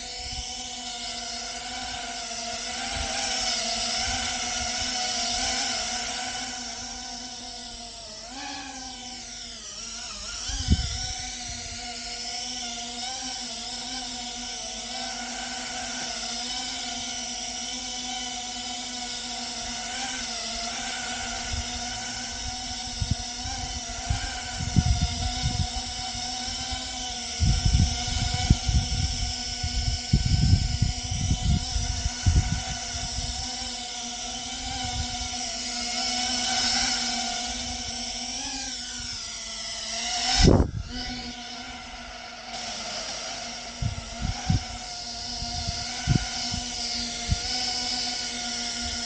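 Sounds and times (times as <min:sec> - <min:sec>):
quadcopter propellers buzzing: 0:00.0 - 0:49.0.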